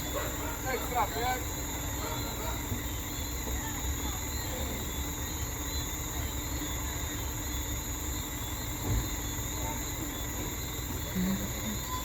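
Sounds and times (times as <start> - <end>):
insects chirring: 0.0 - 12.0
truck engine rumbling: 0.0 - 12.0.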